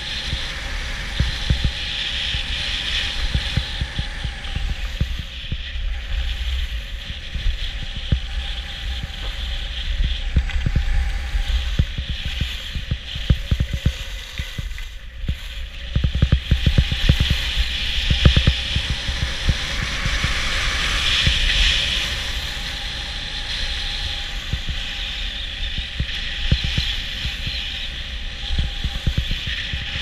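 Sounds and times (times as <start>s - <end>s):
skis carving on packed snow: 0.0s - 30.0s
wind buffeting microphone: 0.0s - 30.0s.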